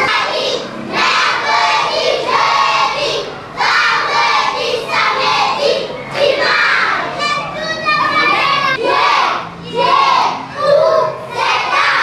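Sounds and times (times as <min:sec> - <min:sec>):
children shouting together: 0:00.0 - 0:12.0.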